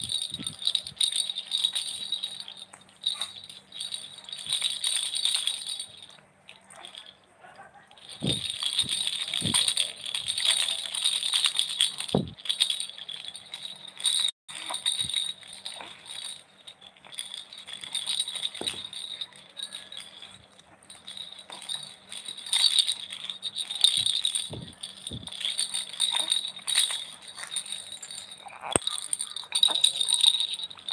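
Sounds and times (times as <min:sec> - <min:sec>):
baby rattle jingling: 0:00.0 - 0:07.2, 0:08.0 - 0:30.9.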